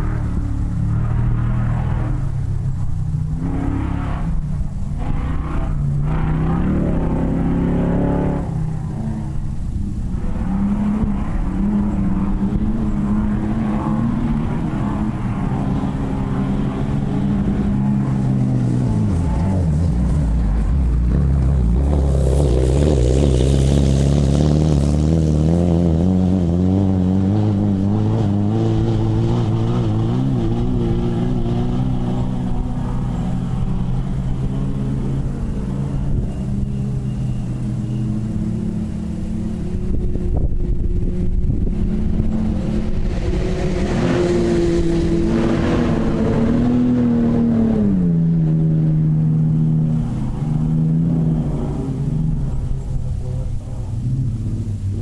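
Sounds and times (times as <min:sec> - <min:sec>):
racing buggy engine revving: 0:00.0 - 0:55.0.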